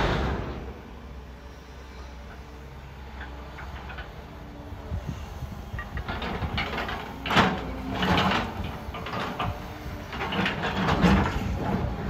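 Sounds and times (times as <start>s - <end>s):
excavator engine whining under load: 0.0s - 12.0s.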